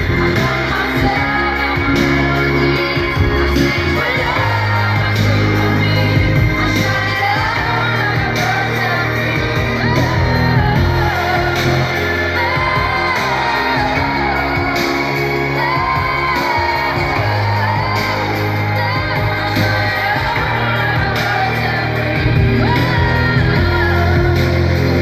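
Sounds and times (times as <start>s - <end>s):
crowd shouting and whooping: 0.0s - 25.0s
woman singing with live band: 0.0s - 25.0s.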